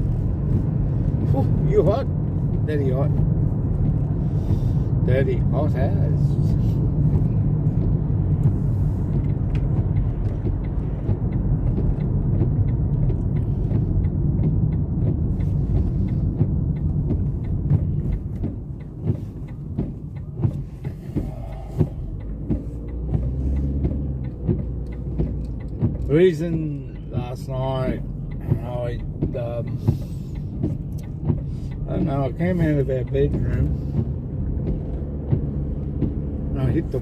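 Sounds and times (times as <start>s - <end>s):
car engine and road noise: 0.0s - 37.0s
light clicks and knocks: 0.0s - 37.0s.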